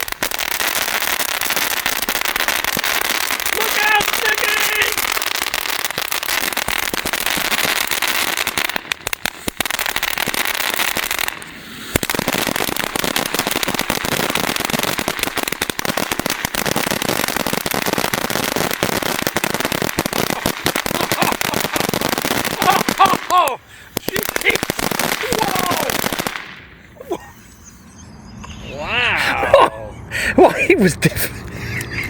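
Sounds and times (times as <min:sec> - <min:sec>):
firework crackling and popping: 0:00.0 - 0:27.0.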